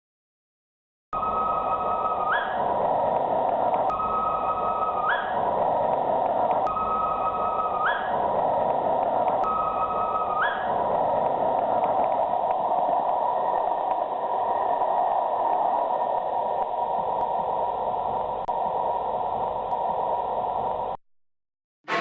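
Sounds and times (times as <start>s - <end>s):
steam train passing: 1.2s - 21.0s.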